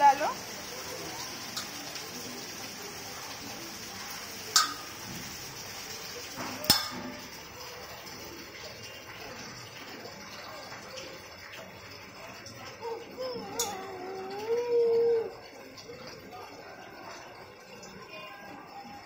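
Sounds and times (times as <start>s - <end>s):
steady rain: 0.0s - 16.5s.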